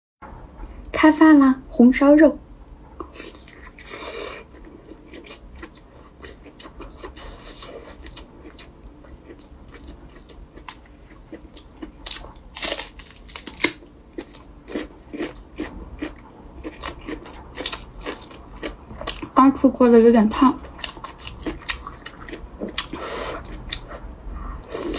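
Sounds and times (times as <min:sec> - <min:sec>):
person chewing with mouth clicks: 0:02.6 - 0:19.4, 0:20.6 - 0:24.9.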